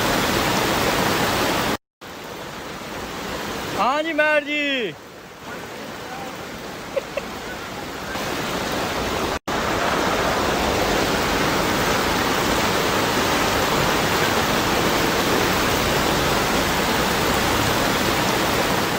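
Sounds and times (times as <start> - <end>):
floodwater rushing through street: 0.0 - 18.9
torrential rain: 0.0 - 18.9.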